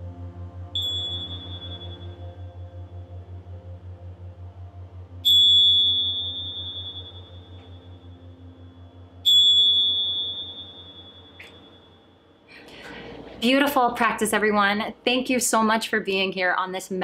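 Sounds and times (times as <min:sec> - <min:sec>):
low pulsing drone: 0:00.0 - 0:15.3.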